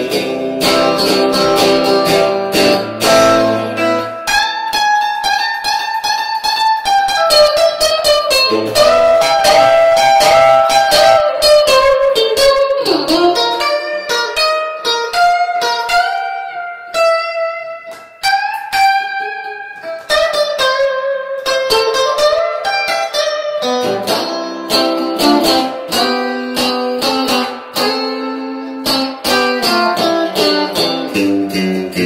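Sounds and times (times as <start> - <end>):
electric guitar playing: 0.0 - 32.0.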